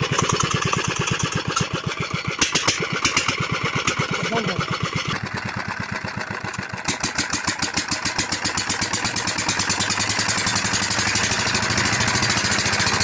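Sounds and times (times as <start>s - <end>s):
diesel pump engine running: 0.0s - 13.0s.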